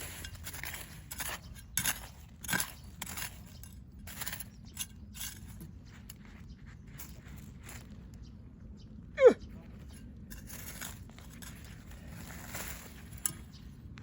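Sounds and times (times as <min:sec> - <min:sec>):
scraping and crunching soil: 0:00.0 - 0:08.3, 0:09.5 - 0:14.0.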